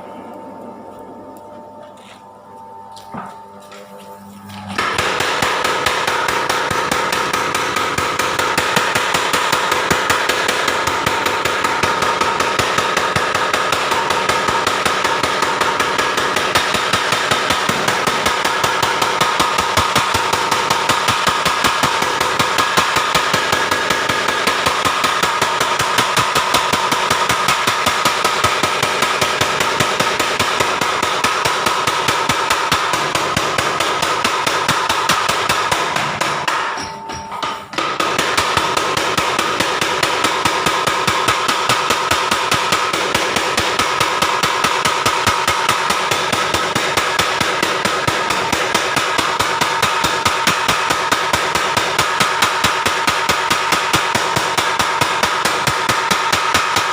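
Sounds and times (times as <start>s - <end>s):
power hammer striking metal: 3.1s - 56.9s.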